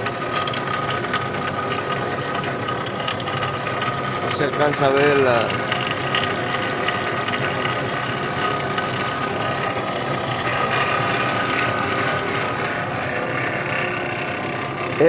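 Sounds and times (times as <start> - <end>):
car engine idling: 0.0 - 15.0
fast even engine ticking: 0.0 - 15.0.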